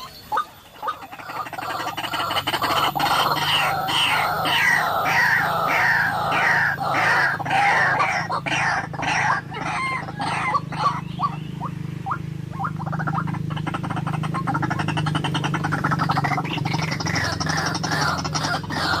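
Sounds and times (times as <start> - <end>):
waterhen harsh croaking calls: 0.0 - 19.0.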